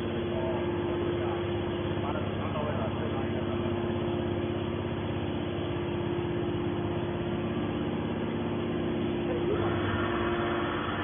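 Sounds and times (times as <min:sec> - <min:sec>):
constant machinery hum: 0:00.0 - 0:11.0
low engine drone: 0:00.0 - 0:11.0.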